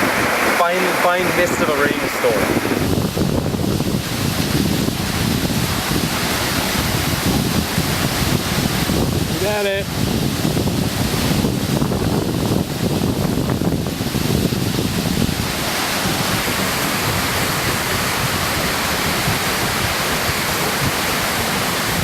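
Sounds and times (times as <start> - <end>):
waterfall pouring: 0.0 - 22.0
wind buffeting microphone: 0.0 - 22.0.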